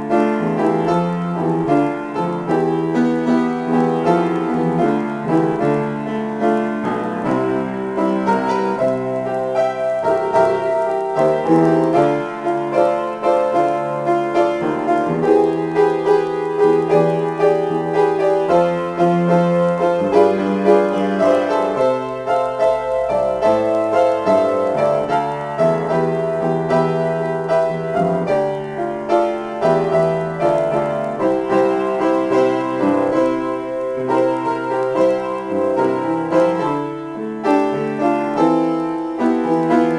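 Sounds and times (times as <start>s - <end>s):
grand piano improvisation: 0.0s - 39.9s.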